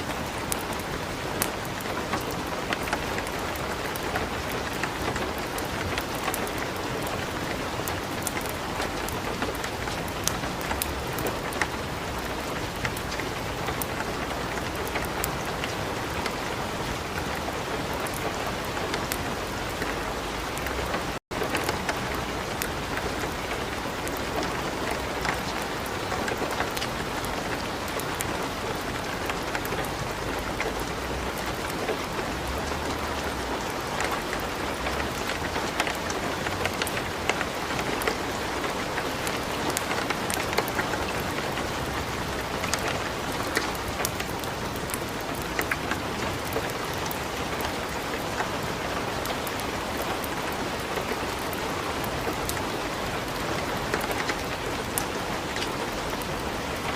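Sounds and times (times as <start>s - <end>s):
steady light rain: 0.0s - 56.9s
wood fire crackling and popping: 0.2s - 20.0s, 20.6s - 48.2s.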